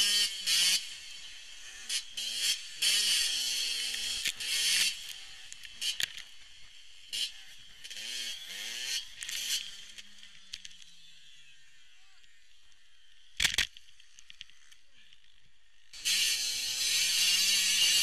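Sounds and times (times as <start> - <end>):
motocross bike engine revving: 0.0 - 12.5, 15.9 - 18.0.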